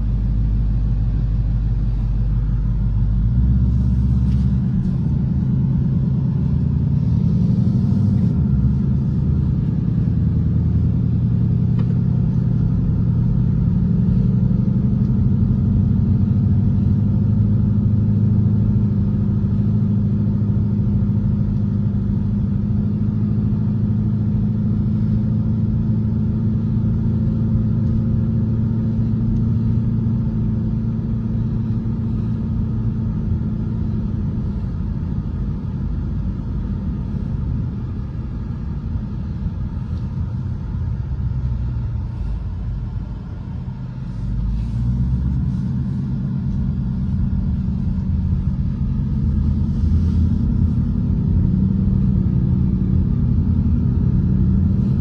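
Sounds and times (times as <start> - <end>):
car engine droning: 0.0 - 55.0
road noise: 0.0 - 55.0.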